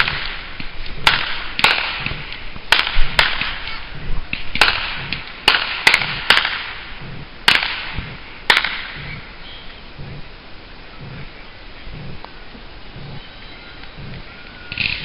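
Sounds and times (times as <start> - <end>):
fireworks cracking: 0.0 - 15.0.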